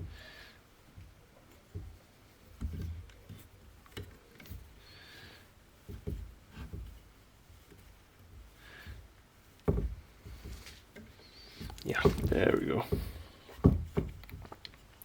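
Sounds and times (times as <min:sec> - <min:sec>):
light knocks and clicks: 0:00.9 - 0:04.8, 0:05.8 - 0:14.9.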